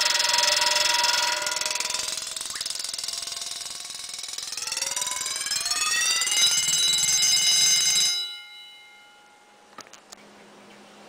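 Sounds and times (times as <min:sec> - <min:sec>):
alarm bell ringing under water: 0:00.0 - 0:09.7.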